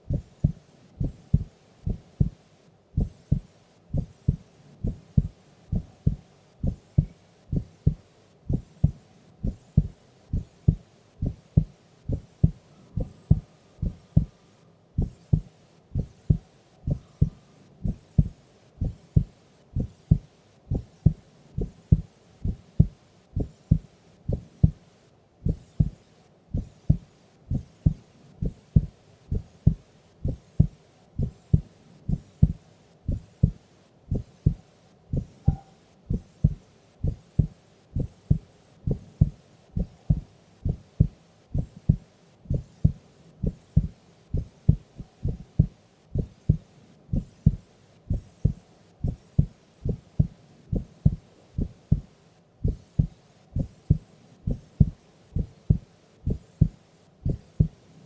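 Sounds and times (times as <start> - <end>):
heartbeat thumps: 0.1 - 2.4, 3.0 - 14.3, 15.0 - 24.8, 25.4 - 57.8.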